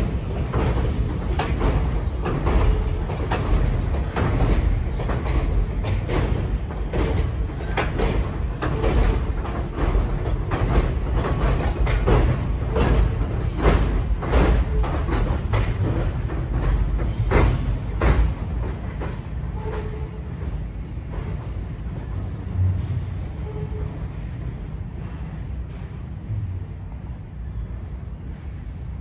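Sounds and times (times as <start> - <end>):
metallic wheel clacks on rails: 0.0 - 23.9
subway train rumbling: 0.0 - 29.0.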